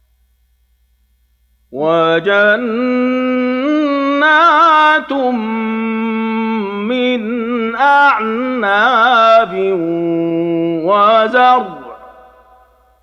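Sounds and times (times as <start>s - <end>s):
man reciting melodically: 1.7s - 12.6s.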